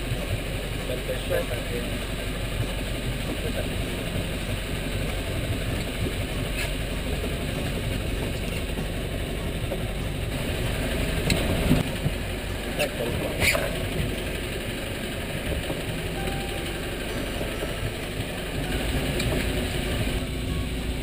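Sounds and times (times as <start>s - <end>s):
wind and sea noise: 0.0s - 20.6s
motorboat engine idling: 0.0s - 21.0s.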